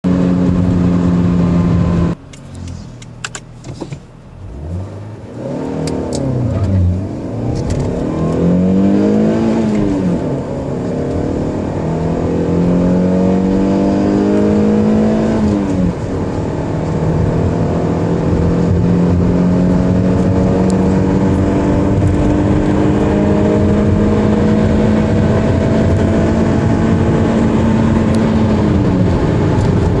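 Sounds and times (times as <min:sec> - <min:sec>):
car engine accelerating hard: 0:00.1 - 0:03.0, 0:04.3 - 0:30.0.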